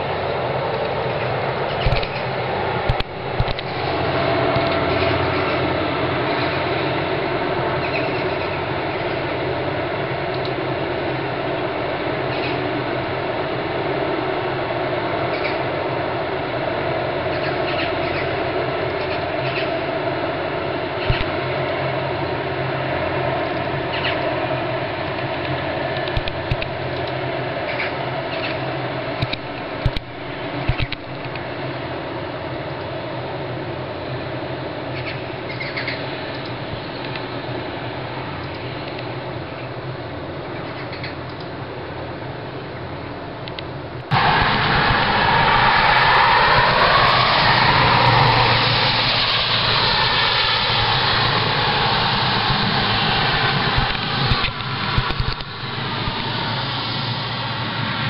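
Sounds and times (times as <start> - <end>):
loud engine-like roar: 0.0 - 40.2, 43.5 - 58.0
low droning hum: 0.0 - 58.0.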